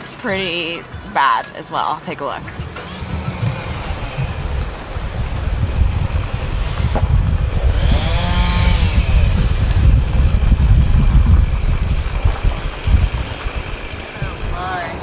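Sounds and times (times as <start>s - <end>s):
wind buffeting microphone: 2.2s - 15.0s.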